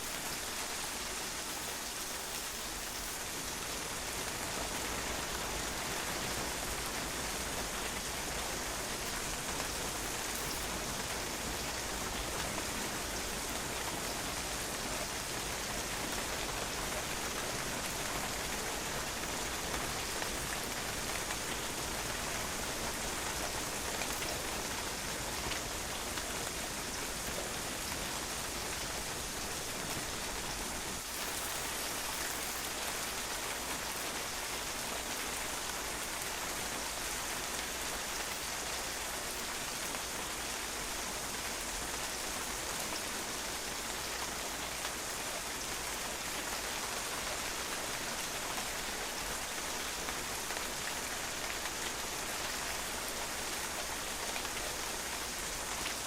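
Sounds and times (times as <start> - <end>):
rain pattering on patio: 0.0 - 56.0.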